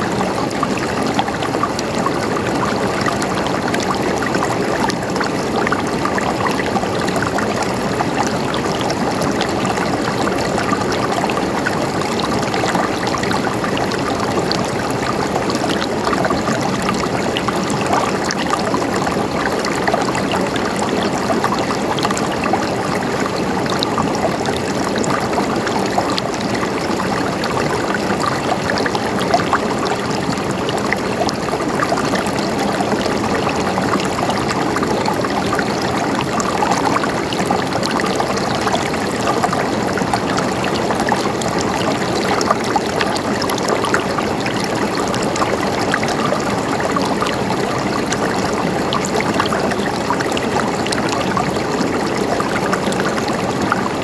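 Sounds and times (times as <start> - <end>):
flowing water gurgling: 0.0 - 54.0.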